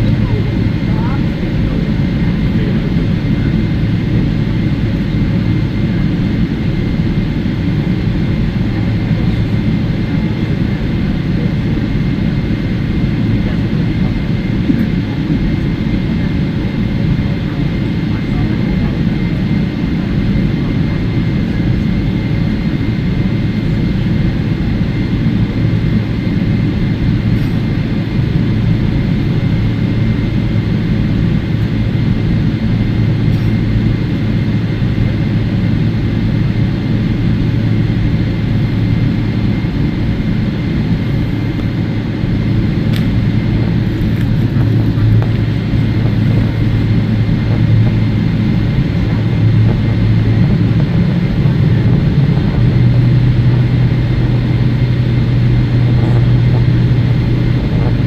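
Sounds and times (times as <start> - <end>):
low engine rumble in aircraft cabin: 0.0 - 58.0.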